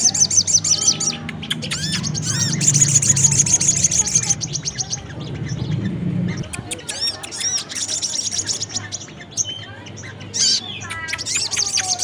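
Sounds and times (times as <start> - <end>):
fast high bird trill: 0.0 - 12.0
high arching bird chirps: 0.0 - 12.0.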